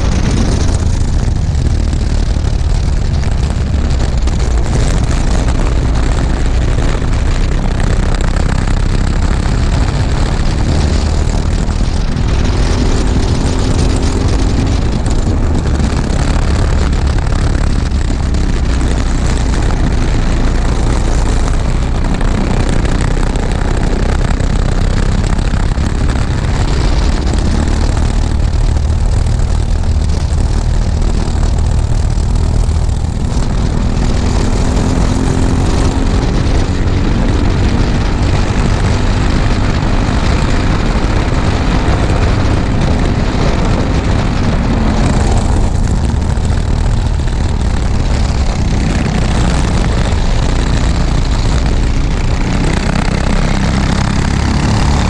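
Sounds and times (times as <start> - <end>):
racing kart engine revving: 0.0 - 55.0.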